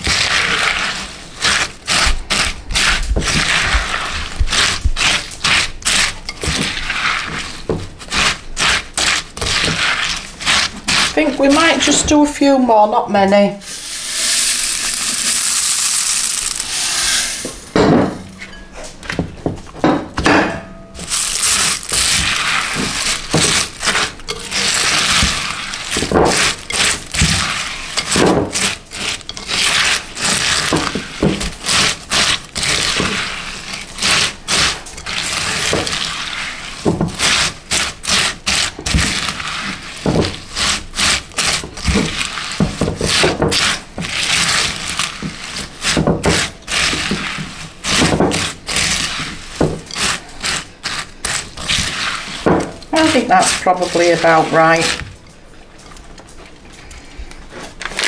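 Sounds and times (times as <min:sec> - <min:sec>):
spoon scraping ceramic bowl: 0:00.0 - 0:12.3, 0:13.6 - 0:19.2, 0:20.9 - 0:55.0
cornflakes crackling: 0:00.0 - 0:12.7, 0:13.6 - 0:17.8, 0:21.0 - 0:55.2, 0:57.5 - 0:58.0.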